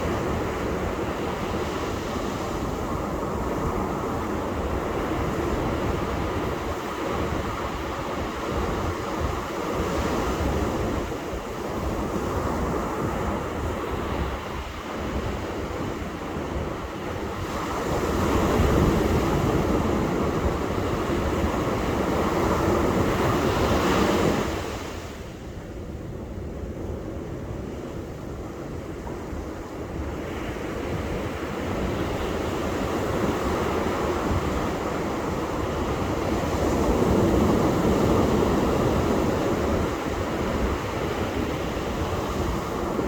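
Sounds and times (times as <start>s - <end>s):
waves breaking on beach: 0.0s - 43.0s.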